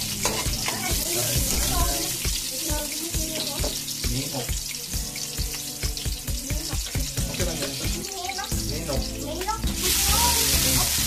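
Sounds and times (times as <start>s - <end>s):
background music with beat: 0.0s - 11.0s
garlic and onion sizzling in oil: 0.0s - 11.0s.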